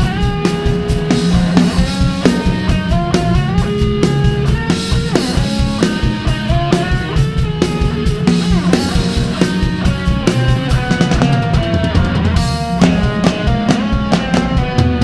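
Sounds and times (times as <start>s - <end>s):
drum kit beat: 0.0s - 15.0s
melodic guitar line: 0.0s - 15.0s.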